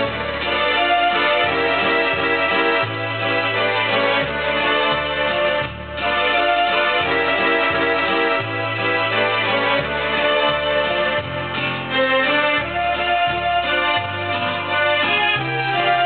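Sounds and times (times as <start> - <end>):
bass line: 0.0 - 16.0
organ-like keyboard chords: 0.0 - 16.0.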